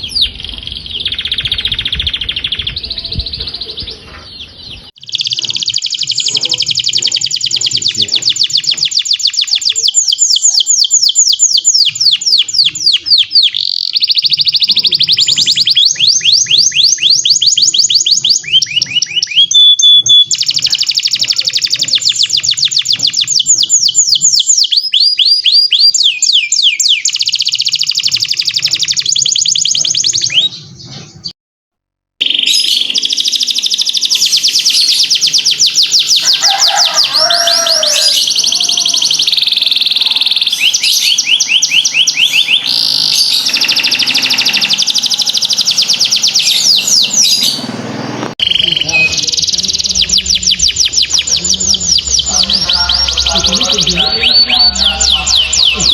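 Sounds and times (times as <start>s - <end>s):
canary singing trills: 0.0s - 31.3s, 32.2s - 55.9s.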